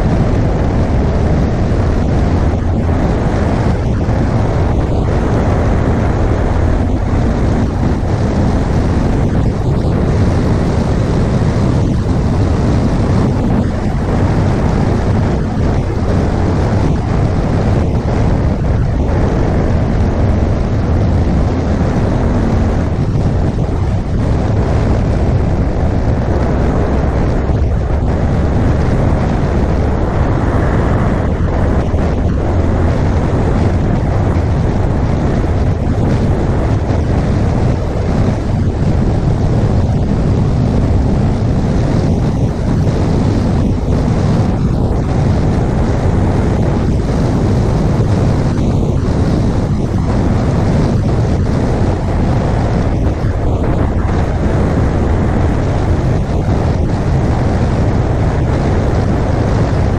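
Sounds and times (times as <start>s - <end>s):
motorcycle engine drone: 0.0s - 59.9s
wind rushing over microphone: 0.0s - 59.9s.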